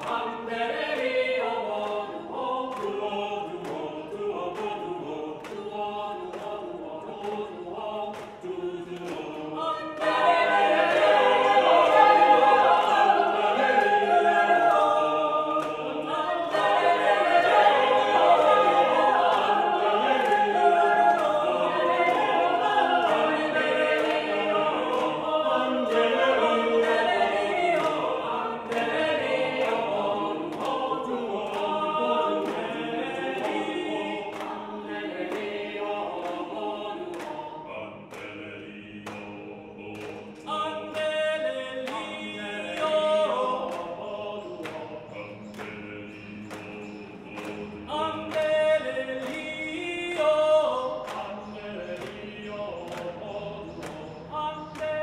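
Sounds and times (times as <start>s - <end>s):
choir singing unaccompanied: 0.0s - 55.0s.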